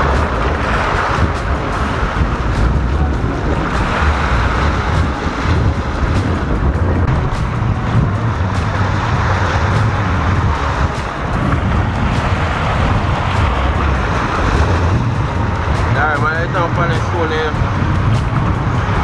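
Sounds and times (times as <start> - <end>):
sea surf on rocks: 0.0 - 19.0
wind noise on microphone: 0.0 - 19.0.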